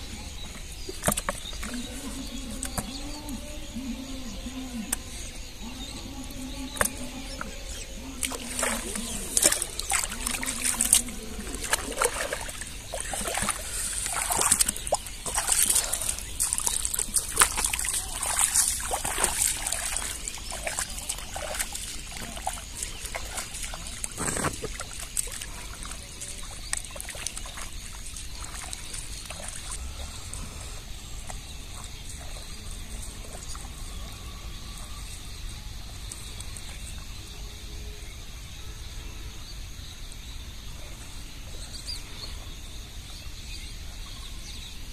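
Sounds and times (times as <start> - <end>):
muddy water splashing: 0.0 - 38.5.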